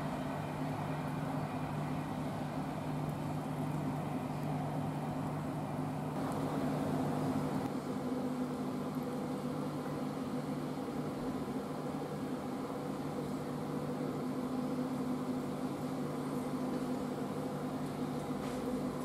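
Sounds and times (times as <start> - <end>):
diesel train engine humming: 0.0 - 19.0.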